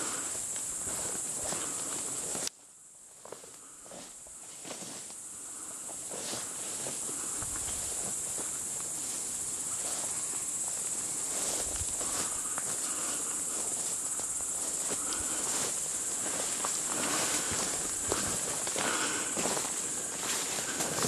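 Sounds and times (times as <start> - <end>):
insects chirring: 0.0 - 21.0
footsteps through undergrowth: 0.3 - 2.6, 3.2 - 5.2, 5.8 - 21.0.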